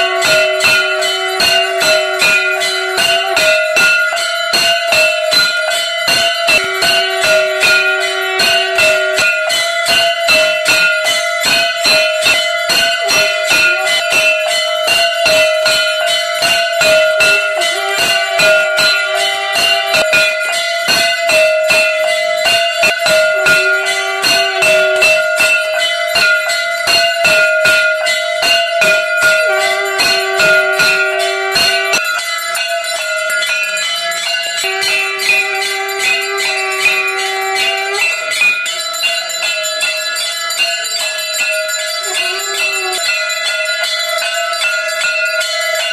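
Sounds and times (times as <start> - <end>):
brass gongs beaten fast: 0.0 - 40.0, 41.6 - 45.9
temple bells ringing: 0.0 - 45.9.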